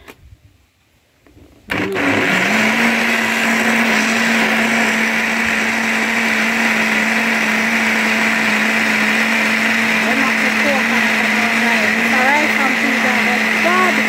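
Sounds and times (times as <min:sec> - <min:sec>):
blender motor hum: 0:01.7 - 0:14.0
churning liquid whirring: 0:01.7 - 0:14.0.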